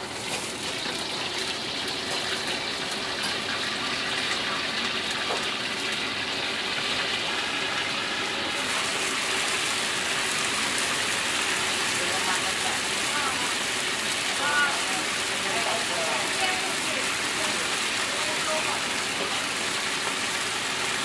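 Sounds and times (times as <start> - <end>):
deep-frying sizzle and crackling: 0.0 - 21.0.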